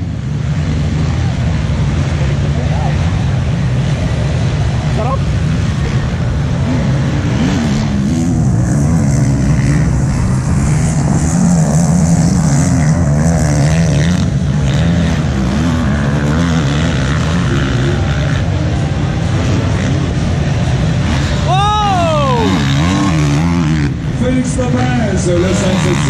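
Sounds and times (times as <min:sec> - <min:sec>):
motocross bike engines droning: 0:00.0 - 0:26.0.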